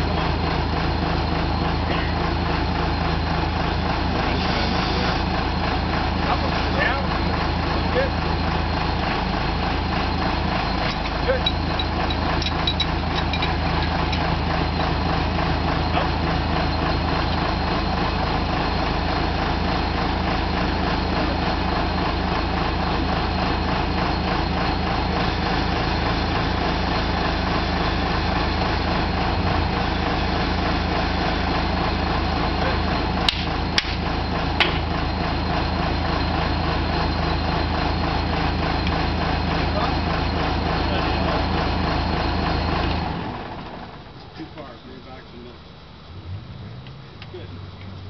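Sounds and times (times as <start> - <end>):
drill rig engine humming: 0.0 - 48.0.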